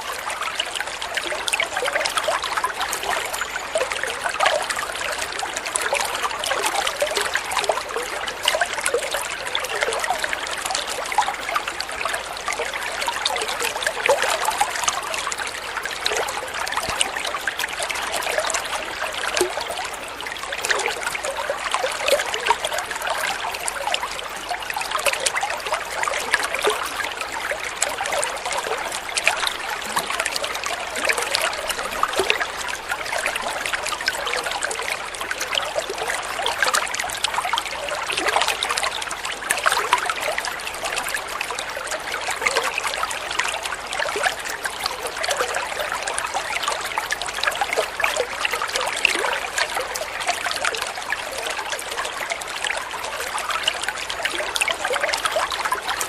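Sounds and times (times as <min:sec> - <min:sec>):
water trickling over rocks: 0:00.0 - 0:56.0.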